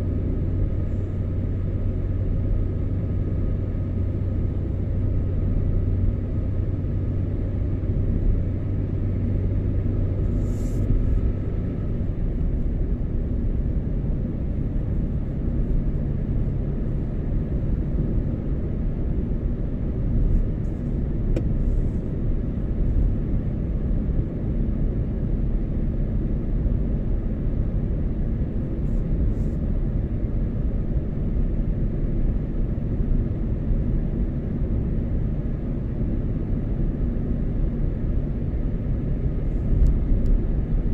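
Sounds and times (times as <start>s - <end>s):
car engine and road noise: 0.0s - 40.9s
low engine hum: 0.0s - 40.9s.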